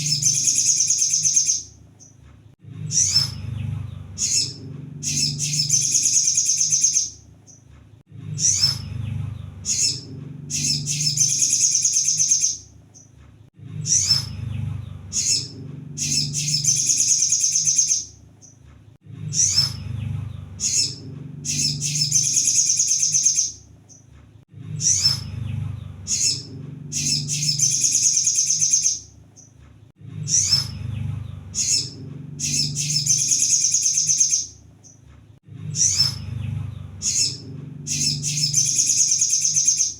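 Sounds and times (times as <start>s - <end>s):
bird chirps and trills: 0.0s - 35.0s, 35.6s - 39.9s
low hum: 2.5s - 7.4s, 8.0s - 39.7s.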